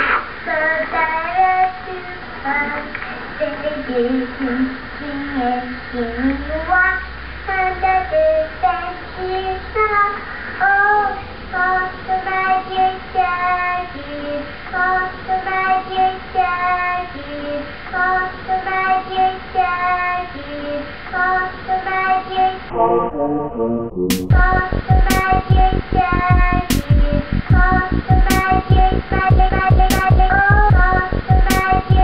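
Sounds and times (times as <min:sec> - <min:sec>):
girl singing unaccompanied: 0:00.4 - 0:22.7, 0:24.3 - 0:32.0.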